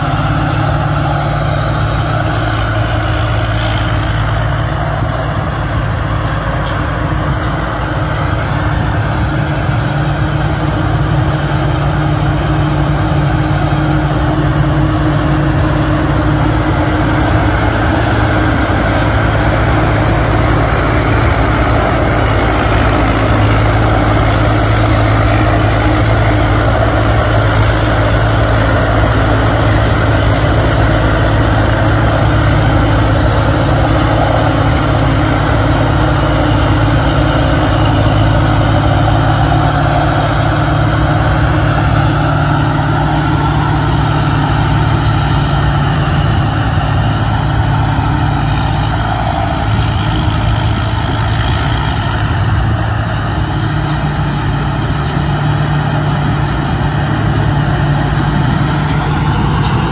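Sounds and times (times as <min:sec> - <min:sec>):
harvester diesel engine running: 0:00.0 - 0:59.9
threshing machinery rattling: 0:00.0 - 0:59.9.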